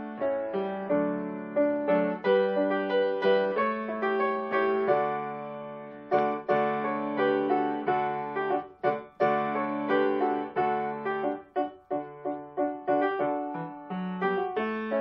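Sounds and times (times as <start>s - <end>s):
piano chords ringing: 0.0s - 15.0s.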